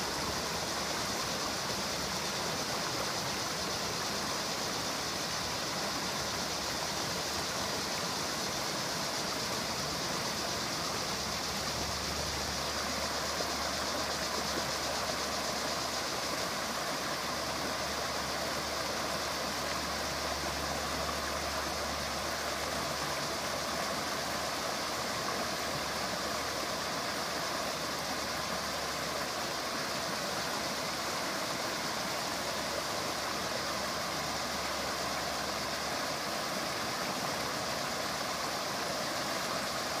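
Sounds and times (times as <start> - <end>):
creek water rushing over rocks: 0.0 - 40.0.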